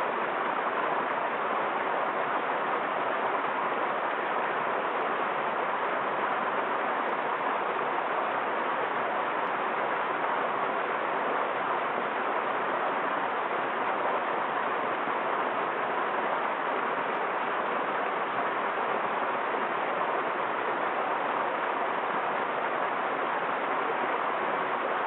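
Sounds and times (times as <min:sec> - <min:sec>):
small waterfall splashing into pool: 0:00.0 - 0:25.0.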